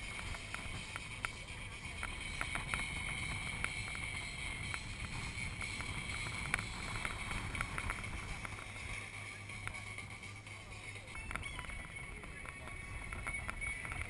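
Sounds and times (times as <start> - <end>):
constant high whine: 0.0 - 14.0
motor boat engine rumble: 0.0 - 14.0
wind buffeting microphone: 0.0 - 14.0.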